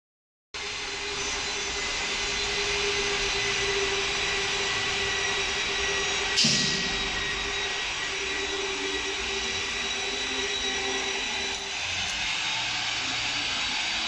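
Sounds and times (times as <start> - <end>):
folding machine humming and whining: 0.6 - 14.0.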